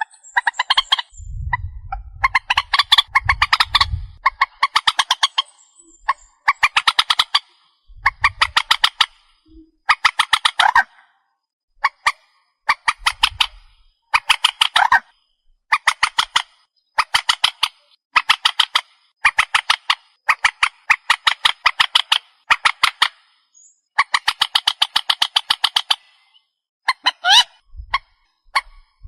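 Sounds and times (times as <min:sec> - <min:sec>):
bird harsh clucking calls: 0:00.0 - 0:11.2, 0:11.8 - 0:29.0.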